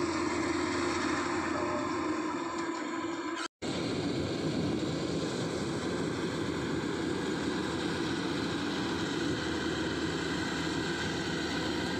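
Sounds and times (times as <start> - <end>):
combine harvester droning: 0.0 - 11.9.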